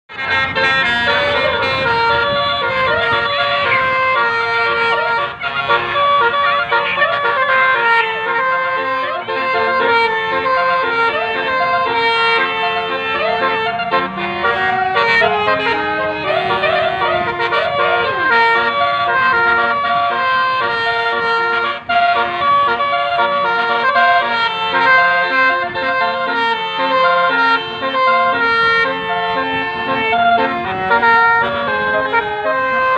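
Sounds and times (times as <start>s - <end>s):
musical air horn melody: 0.1s - 32.9s.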